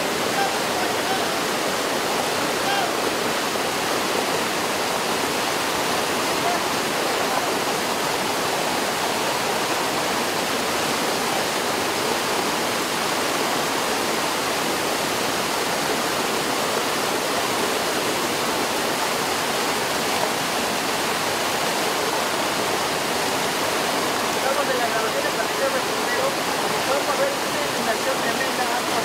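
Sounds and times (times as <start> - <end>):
floodwater rushing down a street: 0.0 - 29.0.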